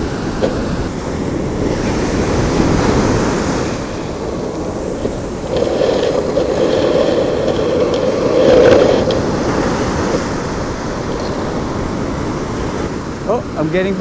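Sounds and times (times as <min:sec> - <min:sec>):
ocean surf washing: 0:00.0 - 0:14.0.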